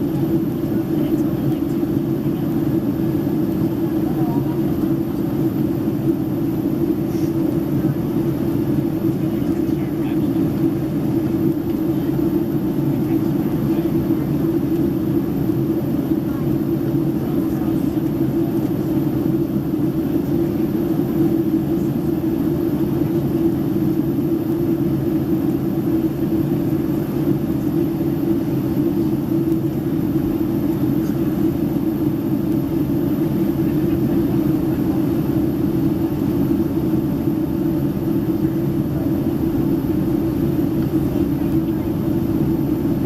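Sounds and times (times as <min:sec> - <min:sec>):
airplane cabin engine drone: 0:00.0 - 0:43.0.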